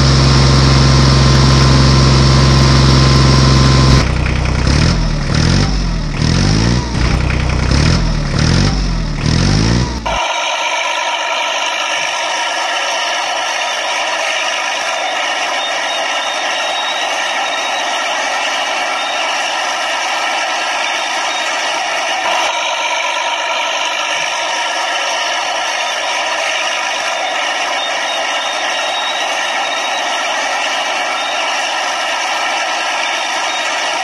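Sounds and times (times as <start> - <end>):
buzzy engine-like drone with rattle: 0.0 - 34.0.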